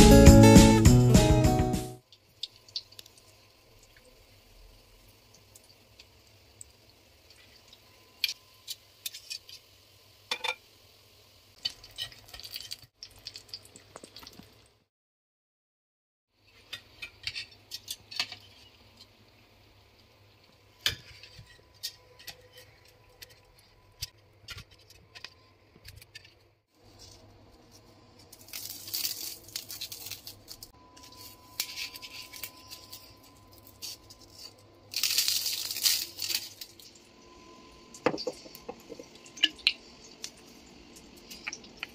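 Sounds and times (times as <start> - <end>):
frying hiss: 2.0 - 14.8, 16.4 - 23.6, 26.8 - 41.9.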